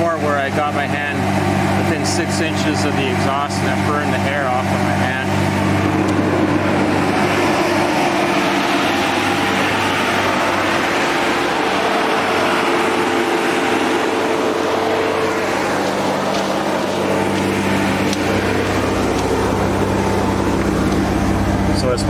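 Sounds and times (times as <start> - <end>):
diesel engine running steadily: 0.0 - 22.0
radiator fans running: 0.0 - 22.0.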